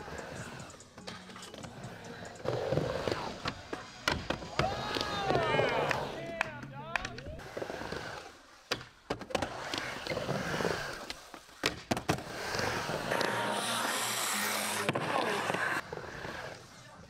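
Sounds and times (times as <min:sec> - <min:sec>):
skateboard wheels rolling on wood: 0:00.0 - 0:06.4, 0:07.0 - 0:17.0.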